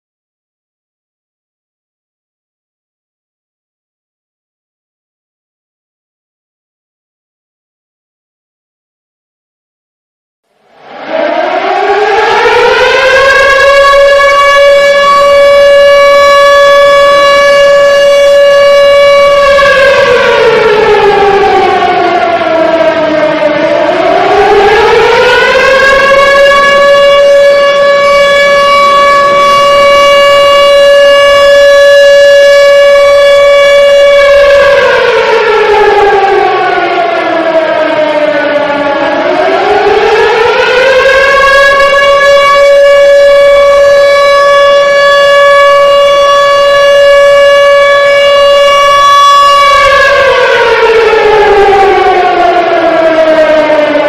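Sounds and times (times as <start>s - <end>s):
civil defense warning siren: 10.6s - 54.0s.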